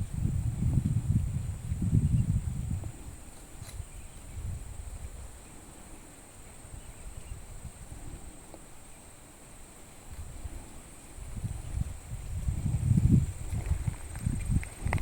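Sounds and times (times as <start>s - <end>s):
low rumble on microphone: 0.0s - 8.8s, 10.1s - 15.0s.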